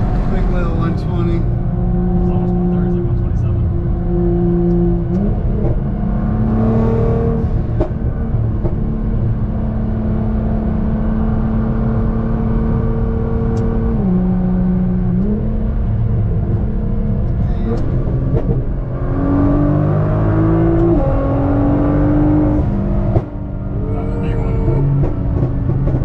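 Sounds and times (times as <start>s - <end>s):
car engine drone: 0.0s - 26.0s
road rumble: 0.0s - 26.0s.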